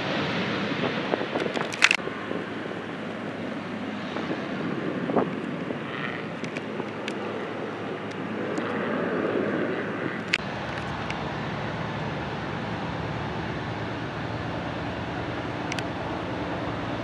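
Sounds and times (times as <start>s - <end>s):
distant airplane engine rumble: 0.0s - 17.0s.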